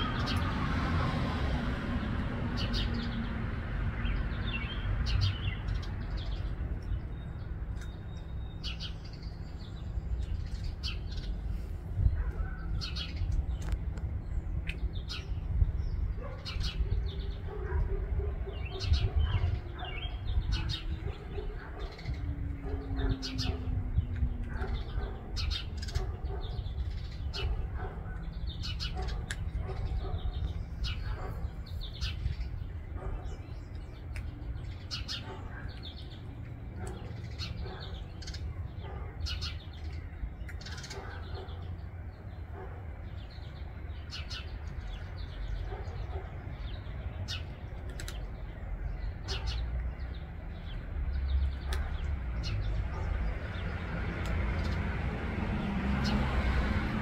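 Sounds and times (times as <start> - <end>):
birds chirping: 2.0 - 57.0.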